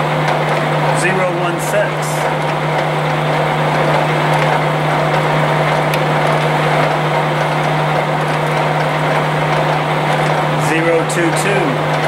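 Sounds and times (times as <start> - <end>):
surface grinder running: 0.0 - 12.0.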